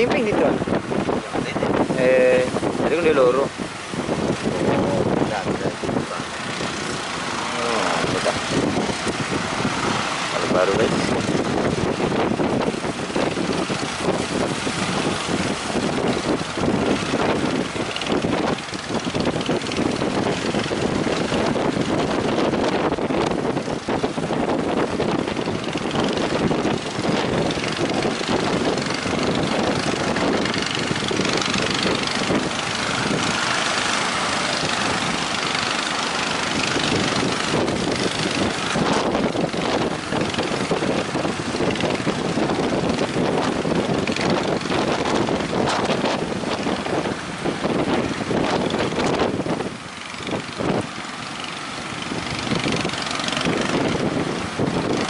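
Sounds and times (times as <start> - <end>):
boat engine running: 0.0 - 55.0
wind buffeting microphone: 0.0 - 55.0.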